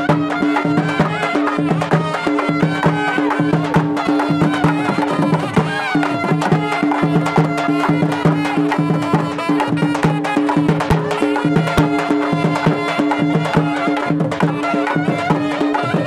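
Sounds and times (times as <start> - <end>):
fast hand-drumming: 0.0 - 16.0.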